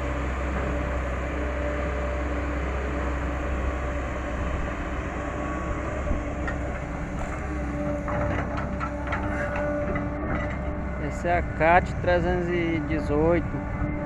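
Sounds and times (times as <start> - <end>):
excavator engine drone with whine: 0.0 - 14.0.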